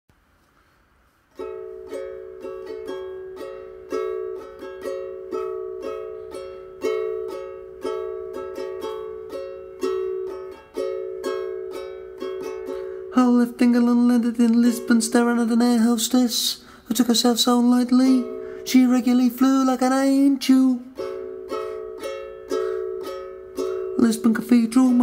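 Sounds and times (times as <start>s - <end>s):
ukulele strumming: 1.3s - 25.0s.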